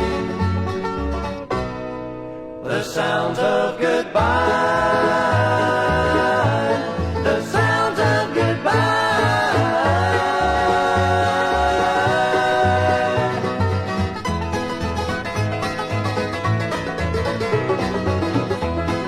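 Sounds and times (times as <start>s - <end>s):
pulsing bass: 0.0s - 2.6s, 4.0s - 19.0s
banjo picking: 0.0s - 19.0s
guitar picking: 0.0s - 19.0s.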